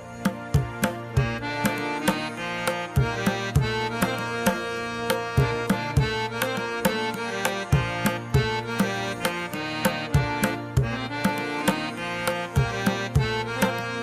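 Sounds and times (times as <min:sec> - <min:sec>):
sustained melodic notes: 0:00.0 - 0:14.0
tabla drum beat: 0:00.0 - 0:14.0.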